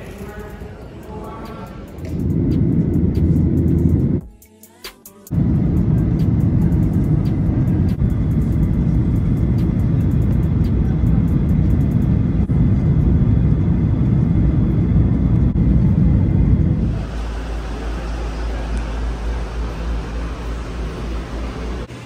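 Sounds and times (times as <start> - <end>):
jet engines rumbling: 0.0 - 4.2, 5.3 - 22.0
rushing air: 1.5 - 4.2, 5.3 - 22.0.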